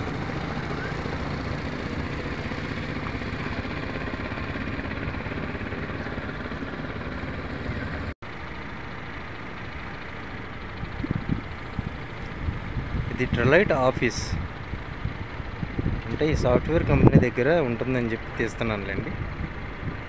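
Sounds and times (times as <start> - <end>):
vehicle engine and traffic rumble: 0.0 - 20.0.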